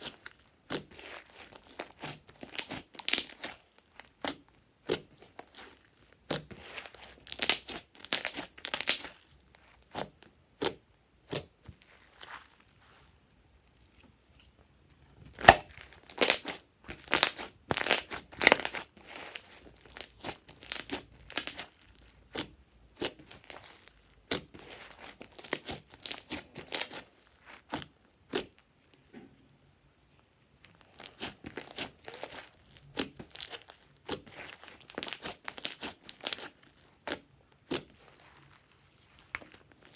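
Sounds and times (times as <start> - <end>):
sticky slime crackling: 0.0 - 14.4, 15.1 - 28.7, 30.6 - 39.9.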